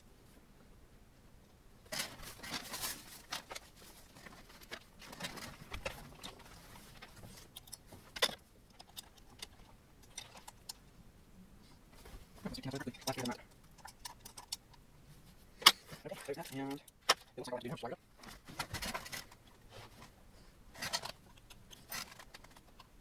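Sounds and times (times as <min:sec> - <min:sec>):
cables rustling: 0:01.8 - 0:23.0.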